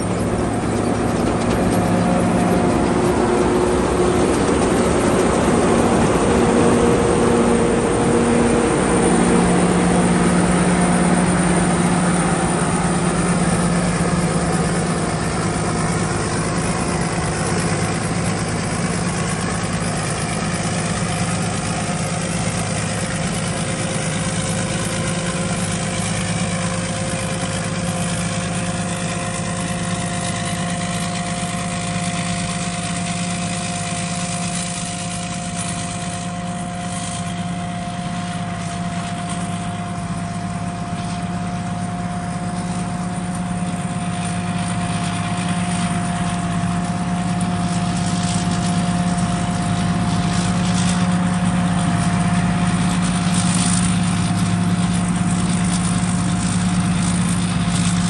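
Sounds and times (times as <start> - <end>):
combine harvester engine hum: 0.0 - 58.0
high machine whine: 0.0 - 58.0.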